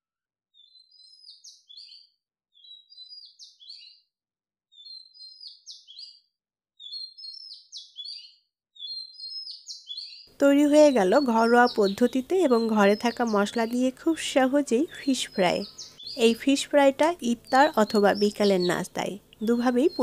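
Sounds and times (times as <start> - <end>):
small bird chirping: 0.5 - 4.1, 4.7 - 20.0.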